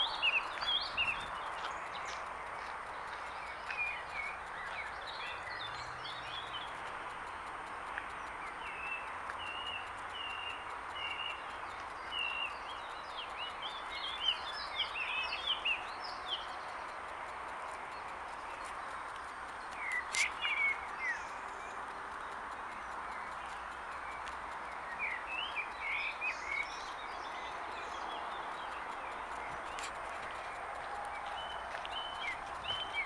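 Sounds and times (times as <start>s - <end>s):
songbirds singing and chirping: 0.0s - 33.0s
steady background rush: 0.0s - 33.0s.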